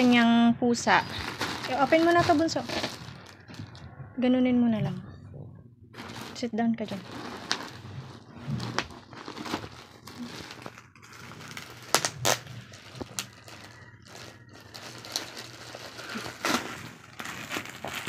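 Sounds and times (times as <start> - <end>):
plastic mailer bag crinkling: 0.0 - 0.2, 0.9 - 3.8, 6.0 - 18.0.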